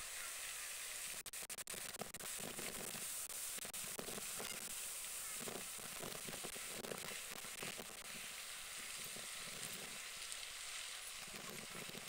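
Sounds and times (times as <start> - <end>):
outdoor hiss: 0.0 - 12.0
light crackling and ticking: 1.1 - 12.0.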